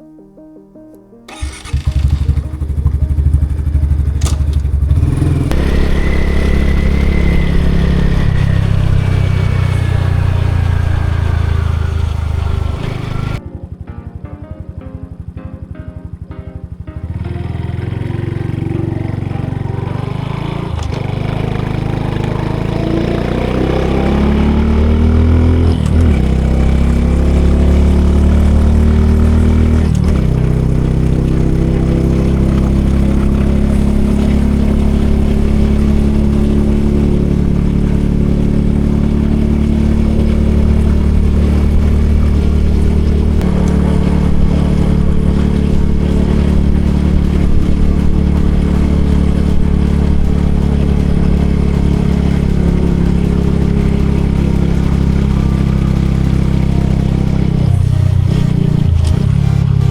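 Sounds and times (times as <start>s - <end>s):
motorcycle engine accelerating: 1.3s - 13.4s, 14.6s - 59.9s.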